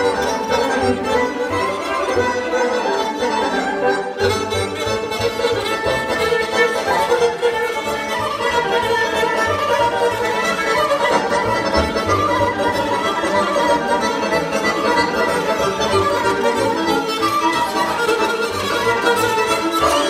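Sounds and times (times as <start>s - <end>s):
bowed fiddle melody: 0.0s - 20.0s.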